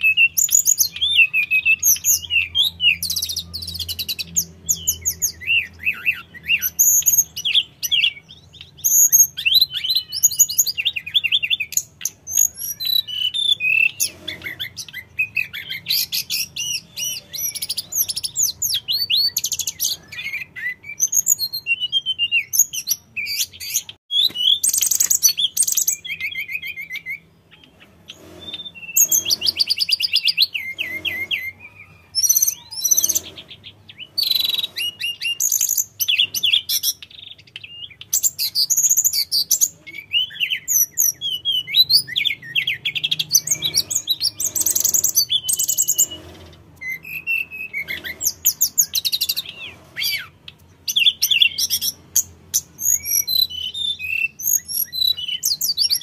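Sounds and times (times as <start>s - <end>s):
bird singing whistled trills: 0.0s - 46.2s, 46.8s - 56.0s.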